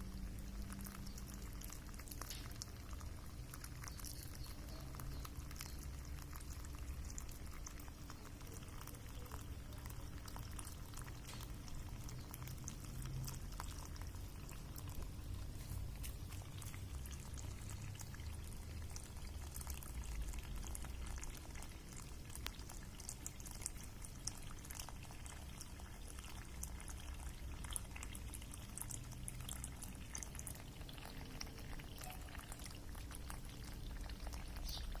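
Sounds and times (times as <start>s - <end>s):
small splashes and ticks: 0.0s - 35.0s.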